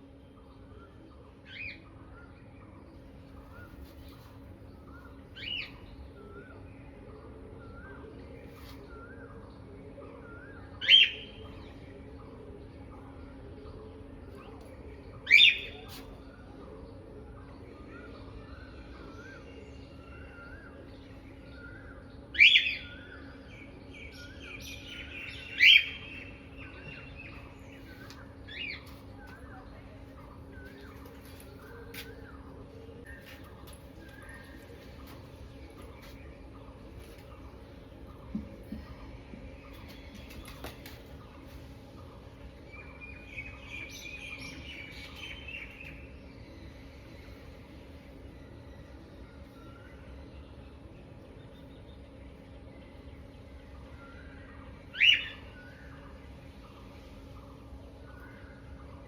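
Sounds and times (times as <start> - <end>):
small birds twittering: 0.0 - 59.0
steady low hum: 0.0 - 59.0.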